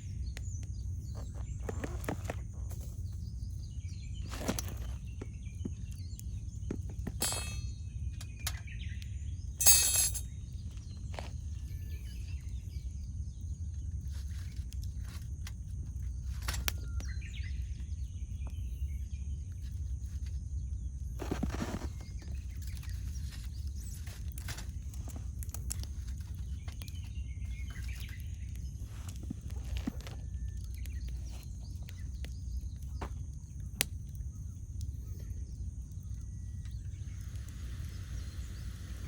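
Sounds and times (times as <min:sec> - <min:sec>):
birds chirping faintly: 0:00.0 - 0:39.0
campfire crackling: 0:00.1 - 0:39.0.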